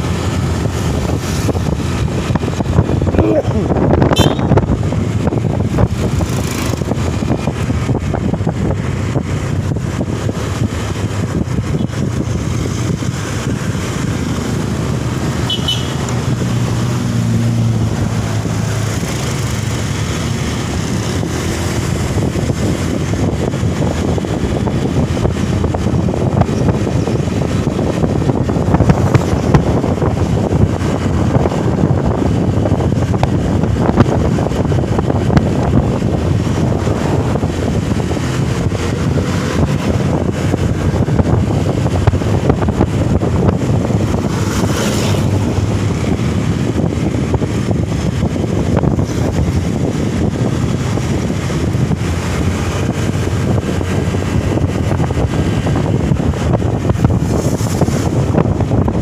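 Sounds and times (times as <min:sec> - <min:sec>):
low engine hum: 0:00.0 - 0:59.0
moving road vehicle: 0:00.0 - 0:59.0
wind rumbling on microphone: 0:00.0 - 0:59.0.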